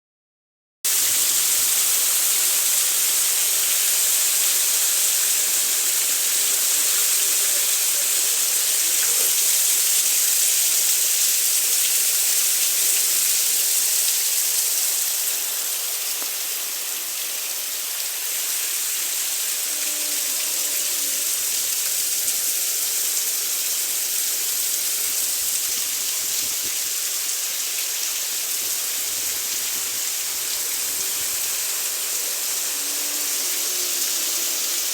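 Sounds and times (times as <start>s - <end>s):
heavy rain pouring: 0.9s - 34.9s.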